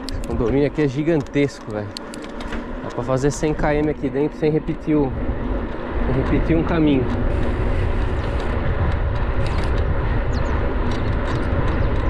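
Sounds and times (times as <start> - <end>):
bicycle tyre noise: 0.0 - 12.0
bike clicks and rattles: 0.0 - 12.0
wind rushing over microphone: 0.0 - 12.0.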